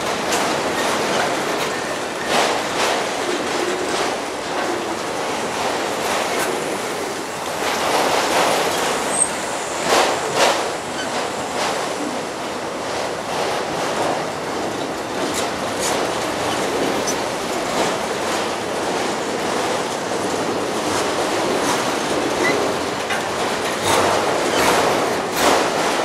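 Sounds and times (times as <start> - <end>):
freight train cars rumbling: 0.0 - 26.0
wheels clicking over rail joints: 0.0 - 26.0.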